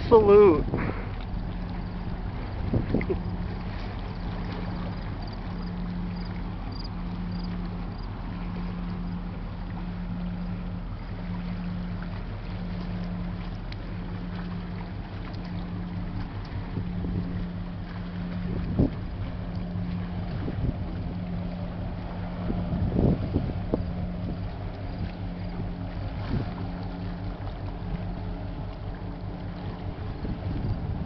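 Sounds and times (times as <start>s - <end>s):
low throbbing engine drone: 0.0s - 31.0s
water noise: 0.0s - 31.0s
wind: 0.0s - 31.0s.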